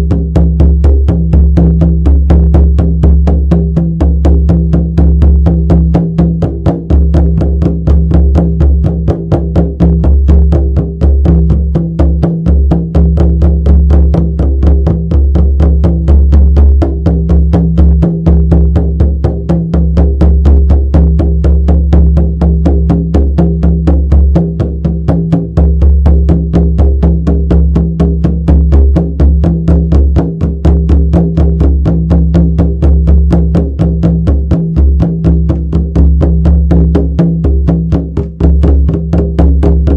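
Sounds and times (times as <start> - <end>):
frame drum beaten fast: 0.0 - 39.9.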